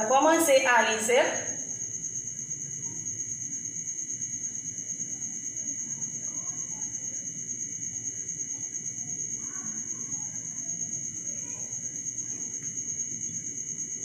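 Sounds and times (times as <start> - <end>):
low background hiss: 0.0 - 13.9
crickets trilling: 0.0 - 14.0.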